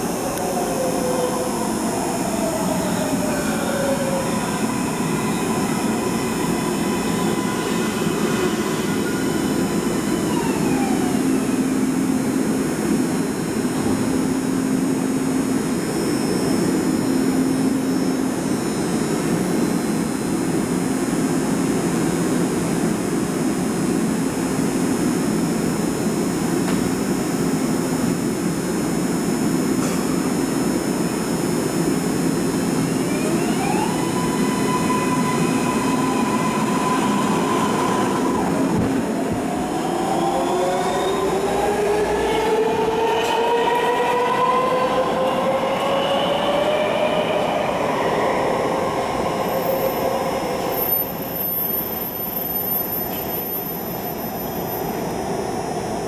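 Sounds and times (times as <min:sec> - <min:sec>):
train whining tones: 0:00.0 - 0:23.1, 0:31.8 - 0:56.0
train humming: 0:00.0 - 0:56.0.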